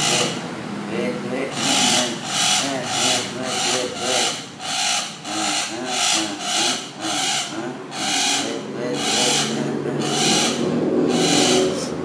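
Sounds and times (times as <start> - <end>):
parrot screeching squawks: 1.6 - 11.8.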